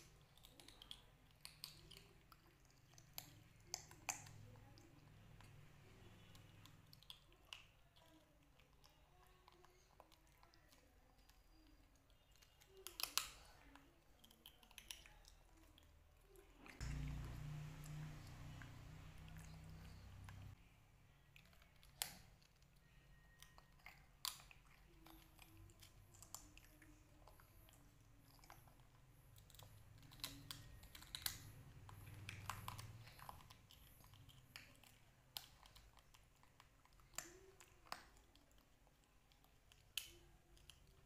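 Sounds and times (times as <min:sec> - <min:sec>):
mouth clicks and smacks chewing: 0:00.0 - 0:41.0.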